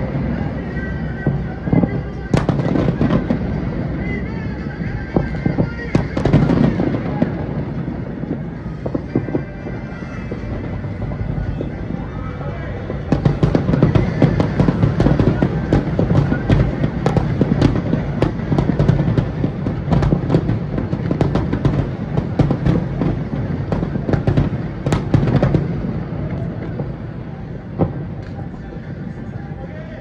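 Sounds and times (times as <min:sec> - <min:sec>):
low rumble: 0:00.0 - 0:29.6
fireworks cracks and bangs: 0:00.0 - 0:30.0.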